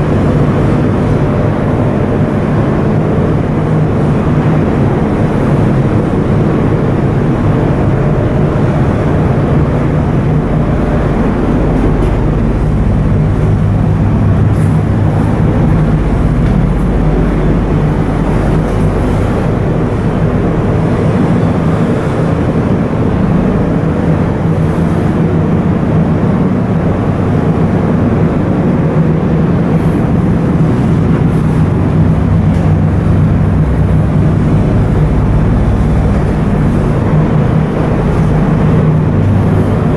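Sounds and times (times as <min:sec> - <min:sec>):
ship diesel engine droning: 0:00.0 - 0:39.9.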